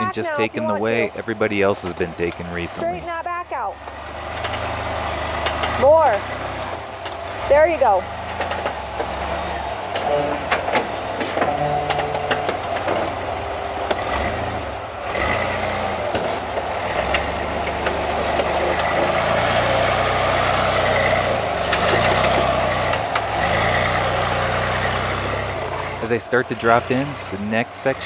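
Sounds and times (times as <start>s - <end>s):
buggy engine running under load: 0.0s - 28.0s.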